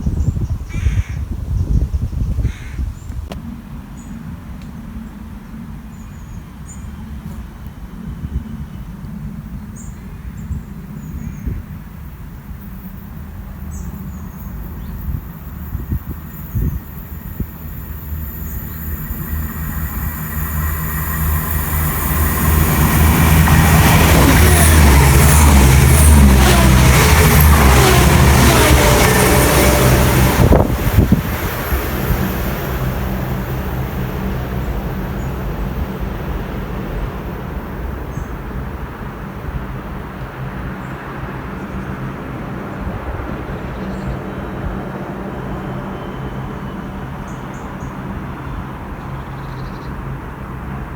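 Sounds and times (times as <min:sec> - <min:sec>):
low train rumble: 0:00.0 - 0:50.9.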